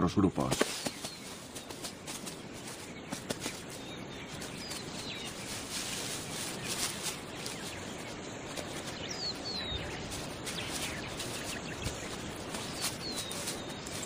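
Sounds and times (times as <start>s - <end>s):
outdoor hiss: 0.1s - 14.0s
soft clicks and rustles: 0.5s - 14.0s
small bird chirping: 0.6s - 14.0s.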